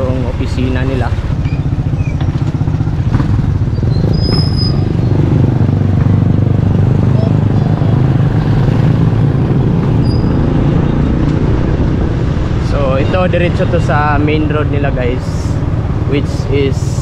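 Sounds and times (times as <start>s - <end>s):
vehicle engine running: 0.0s - 17.0s
wind rumbling on microphone: 1.1s - 16.1s.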